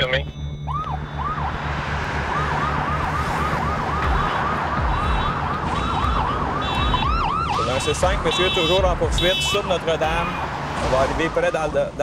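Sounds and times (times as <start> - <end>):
police car siren: 0.3 - 10.6.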